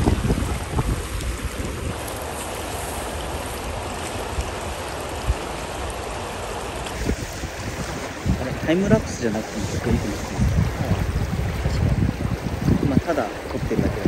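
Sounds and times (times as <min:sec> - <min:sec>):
sea surf washing: 0:00.0 - 0:14.0.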